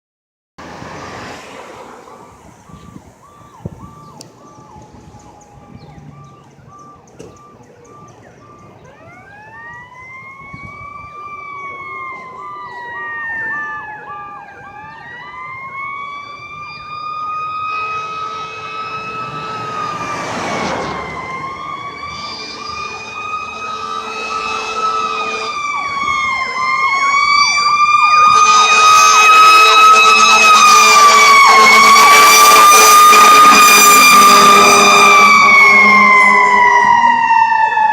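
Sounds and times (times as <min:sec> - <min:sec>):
fire engine siren wailing: 0:00.6 - 0:37.9.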